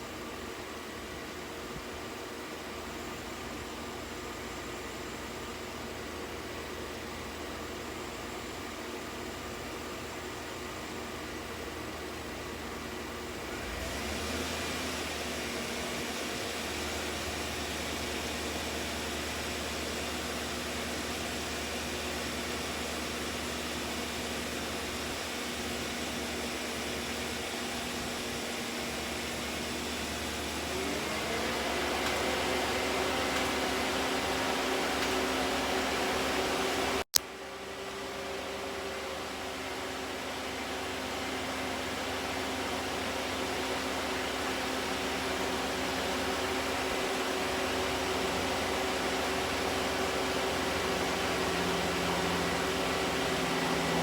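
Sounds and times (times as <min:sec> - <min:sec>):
car engine running: 0:00.0 - 0:37.1, 0:38.0 - 0:54.0.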